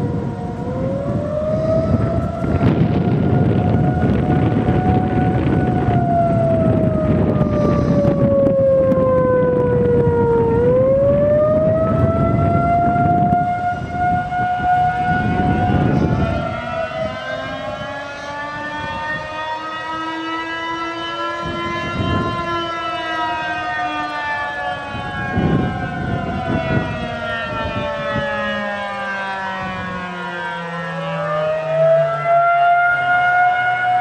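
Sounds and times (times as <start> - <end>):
tornado sirens wailing: 0.0 - 34.0.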